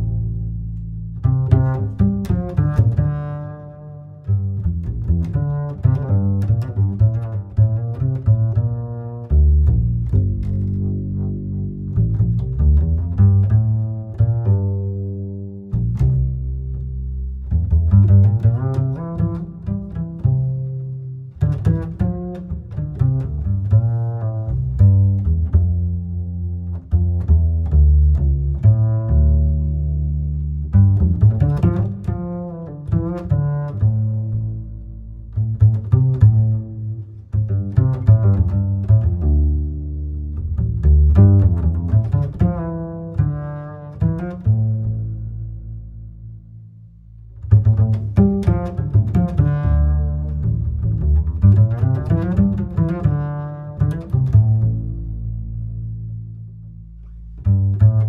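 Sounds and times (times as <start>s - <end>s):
plucked low notes music: 0.0s - 58.0s.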